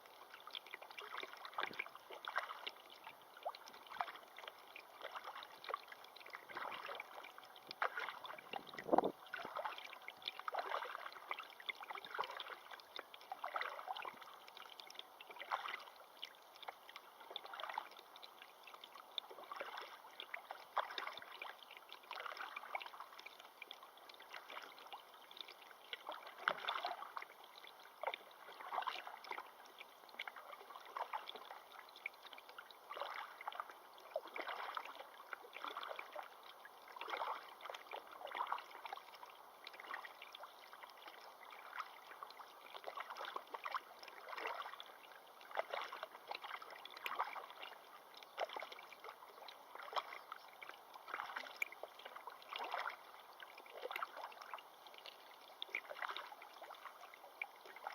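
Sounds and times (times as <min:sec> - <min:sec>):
faint steady water rush: 0:00.0 - 0:57.9
water splashing and lapping: 0:00.0 - 0:57.9.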